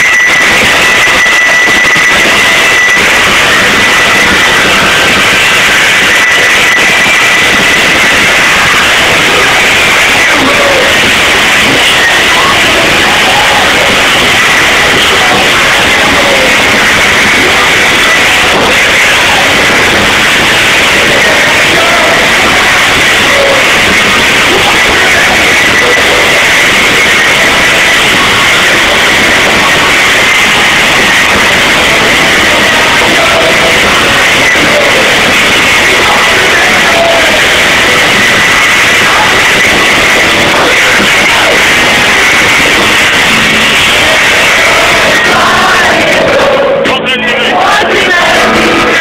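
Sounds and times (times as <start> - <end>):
distorted live rock music: 0.0 - 49.0.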